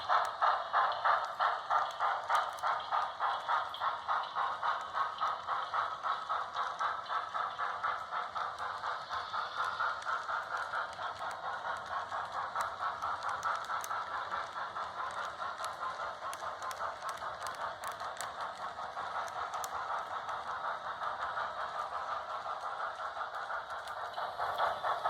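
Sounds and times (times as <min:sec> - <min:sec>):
model steam locomotive chuffing: 0:00.0 - 0:25.0.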